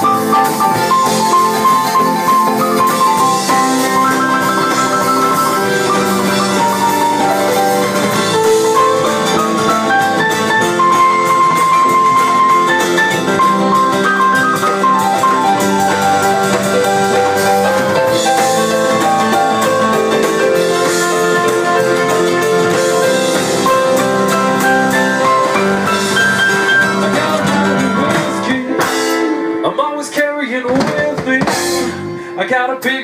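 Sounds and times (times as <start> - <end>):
electronic keyboard melody: 0.0 - 30.1
drums: 0.0 - 33.0.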